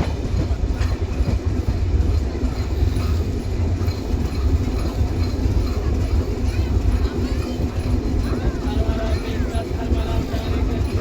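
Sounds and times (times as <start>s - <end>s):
passenger train on rails: 0.0s - 11.0s.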